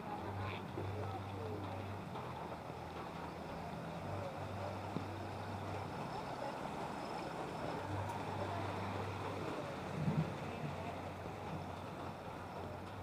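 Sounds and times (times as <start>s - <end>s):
low engine hum: 0.0s - 13.0s
outdoor noise: 0.0s - 13.0s.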